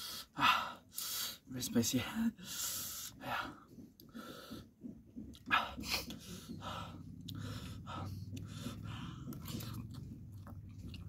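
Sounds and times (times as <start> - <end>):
man panting and hissing breaths: 0.0 - 9.7.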